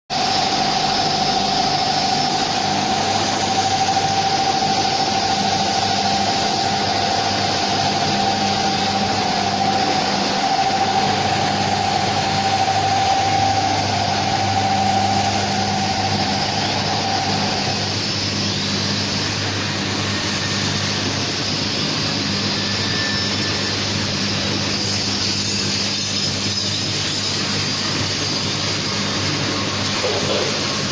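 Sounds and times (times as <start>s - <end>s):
high machine whine: 0.1s - 30.9s
machine humming: 0.1s - 30.9s.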